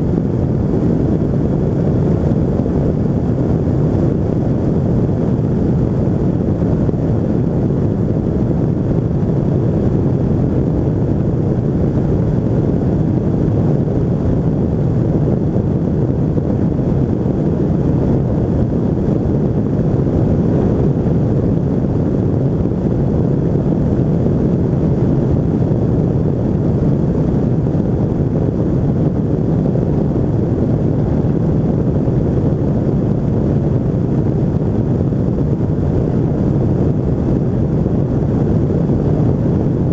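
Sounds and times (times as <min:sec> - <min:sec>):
microlight engine drone: 0:00.0 - 0:39.9
wind rush on microphone: 0:00.0 - 0:39.9.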